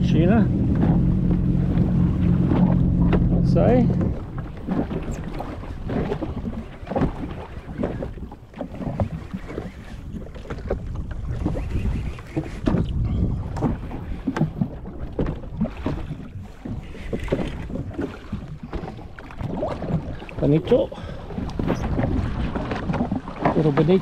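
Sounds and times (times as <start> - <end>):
waves splashing against hull: 0.0 - 24.0
wind buffeting microphone: 0.0 - 24.0.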